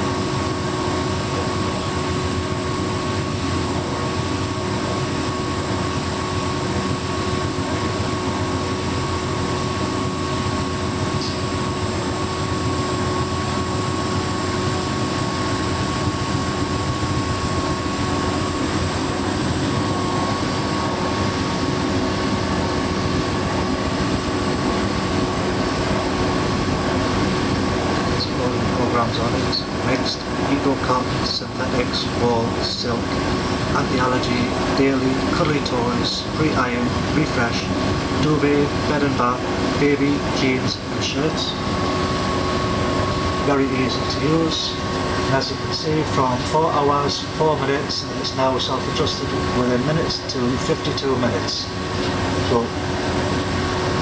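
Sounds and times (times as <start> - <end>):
tumble dryer whirring: 0.0 - 54.0.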